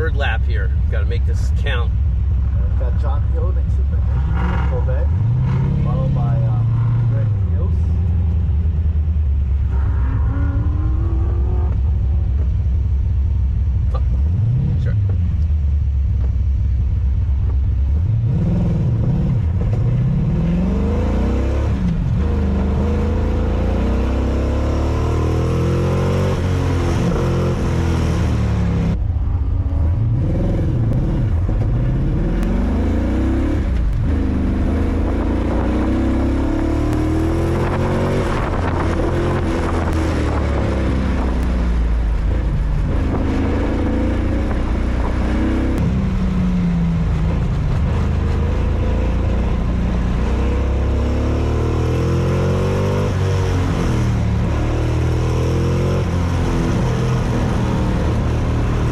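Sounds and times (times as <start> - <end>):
racing car engine revving: 2.4 - 12.5, 17.9 - 29.1, 29.7 - 58.9.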